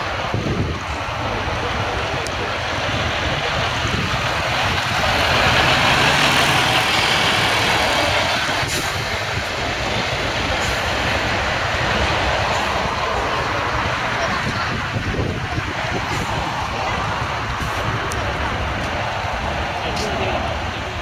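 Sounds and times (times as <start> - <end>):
street traffic: 0.0 - 21.0
truck diesel engine passing: 0.0 - 21.0.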